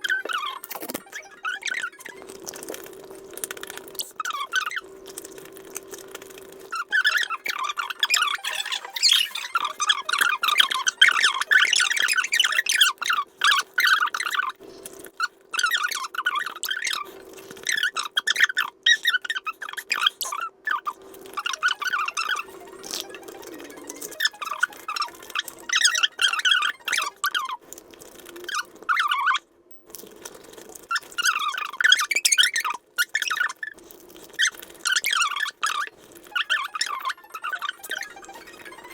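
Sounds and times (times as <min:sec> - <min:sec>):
crackly squeaky chewing: 0:00.0 - 0:38.9.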